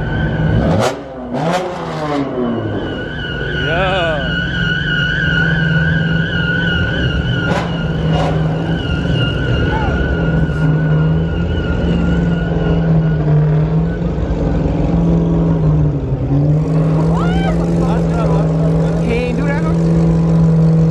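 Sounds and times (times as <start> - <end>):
car engine running loudly: 0.0 - 20.9.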